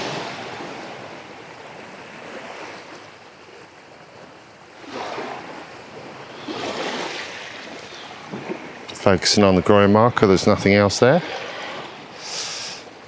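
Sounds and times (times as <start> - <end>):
small waves lapping on shore: 0.0 - 13.0.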